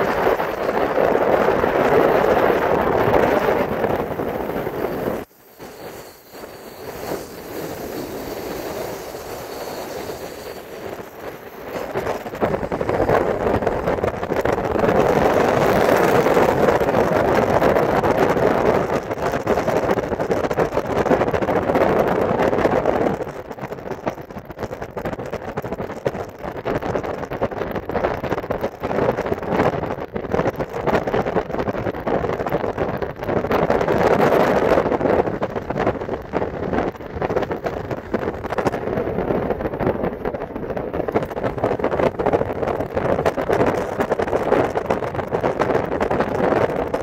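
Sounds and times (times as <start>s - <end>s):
tyre and road noise: 0.0s - 47.0s
wind rushing past phone: 0.0s - 47.0s.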